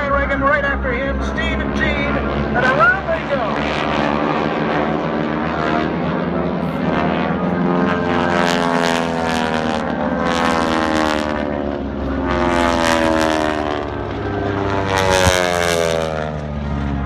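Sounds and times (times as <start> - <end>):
propeller planes passing low: 0.0 - 17.0.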